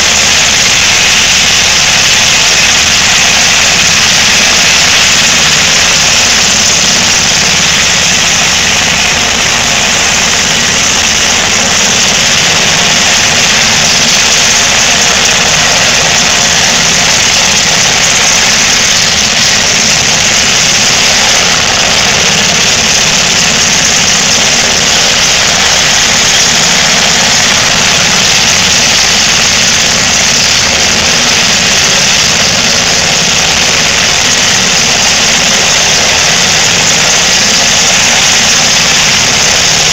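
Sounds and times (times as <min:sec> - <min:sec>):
helicopter idling: 0:00.0 - 0:39.9.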